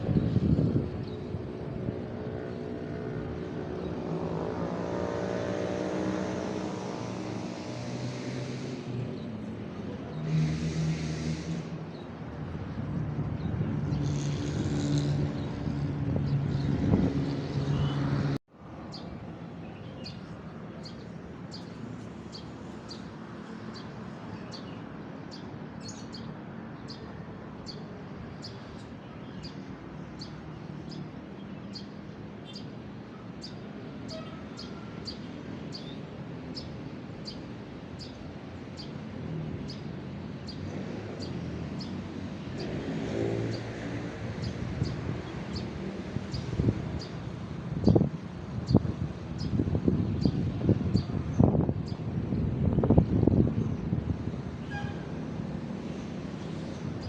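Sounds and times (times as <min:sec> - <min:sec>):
road vehicle passing: 0:00.0 - 0:24.2, 0:34.8 - 0:57.0.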